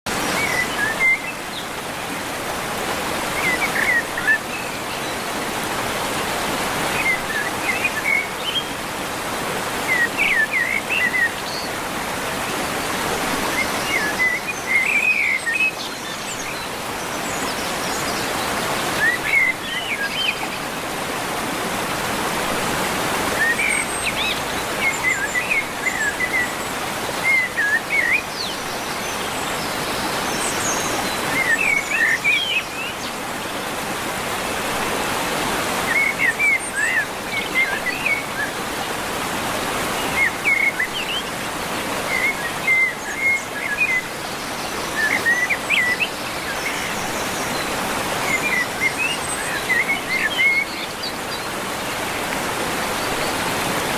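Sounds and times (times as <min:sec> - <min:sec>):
songbirds chirping: 0:00.1 - 0:53.9.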